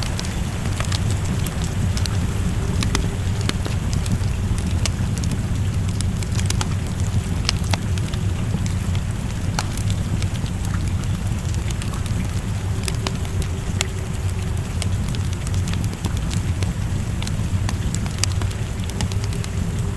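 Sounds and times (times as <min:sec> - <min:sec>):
rain falling: 0:00.0 - 0:19.9
wood fire crackling: 0:00.0 - 0:19.9.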